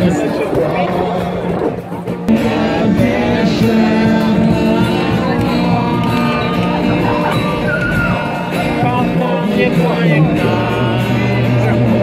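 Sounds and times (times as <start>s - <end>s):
man singing into a microphone: 0.0s - 12.0s
strummed guitar: 0.0s - 12.0s.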